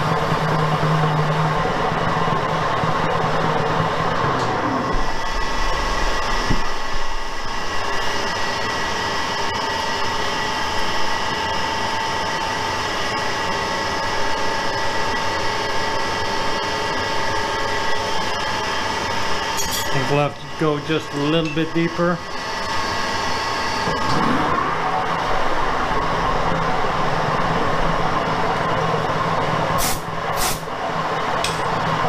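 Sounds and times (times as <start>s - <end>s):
metal lathe cutting: 0.0s - 28.7s
machine whine: 0.0s - 32.0s.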